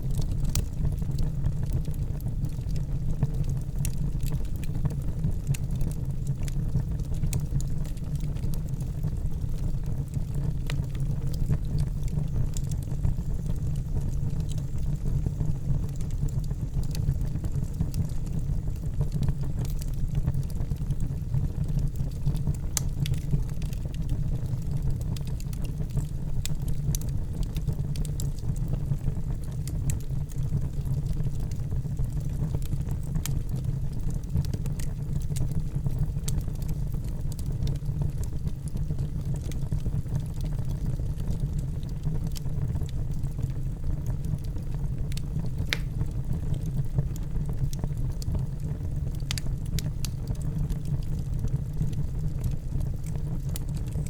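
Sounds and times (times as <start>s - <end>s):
fire crackling and popping: 0.0s - 54.0s
fire flames roaring: 6.8s - 54.0s.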